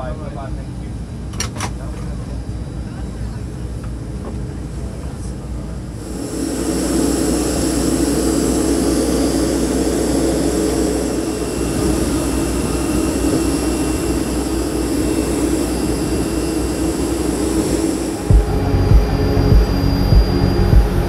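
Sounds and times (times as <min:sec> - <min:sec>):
high jet engine whine: 0:00.0 - 0:21.0
jet aircraft rumble: 0:00.0 - 0:21.0.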